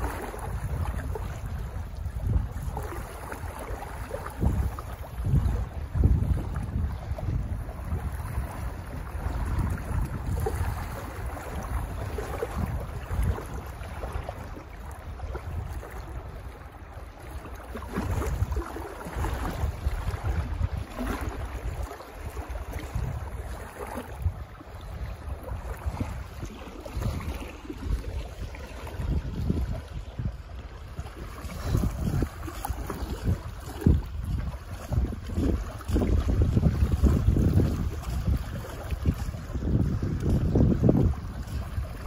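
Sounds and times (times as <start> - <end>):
waves lapping and splashing: 0.0 - 42.0
wind buffeting microphone: 0.0 - 42.0.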